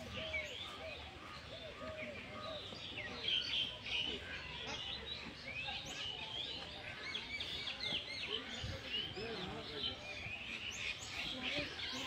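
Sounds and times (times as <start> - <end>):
birds chirping: 0.0 - 12.0
faint distant voices: 0.0 - 12.0.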